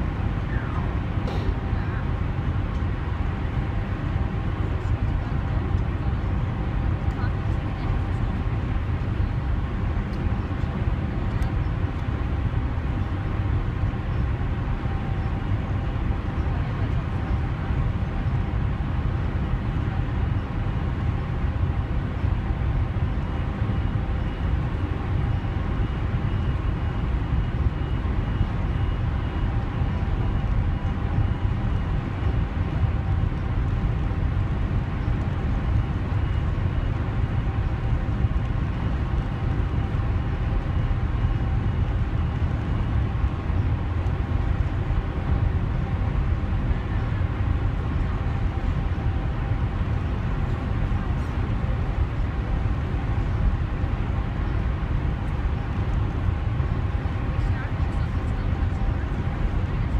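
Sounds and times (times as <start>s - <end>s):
faint machinery hums: 0.0s - 59.9s
ship engines low rumble: 0.0s - 59.9s.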